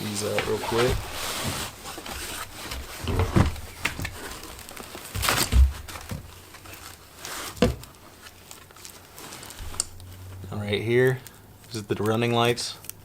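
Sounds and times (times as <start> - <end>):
packaging rustling: 0.0 - 11.7.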